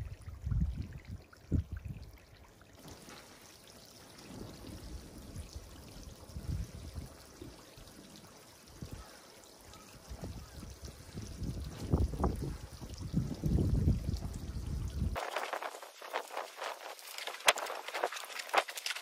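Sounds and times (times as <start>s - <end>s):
water flowing through a channel: 0.0s - 19.0s.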